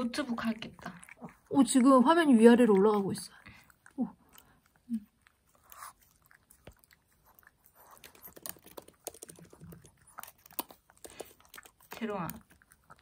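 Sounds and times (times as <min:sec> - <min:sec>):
dog licking fingers: 0:00.1 - 0:13.0.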